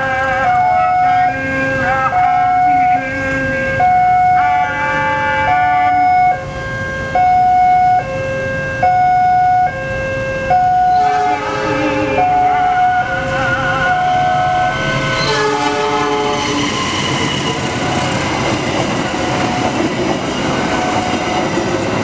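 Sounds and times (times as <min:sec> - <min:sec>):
two-tone crossing alarm: 0:00.0 - 0:18.3, 0:19.3 - 0:21.6.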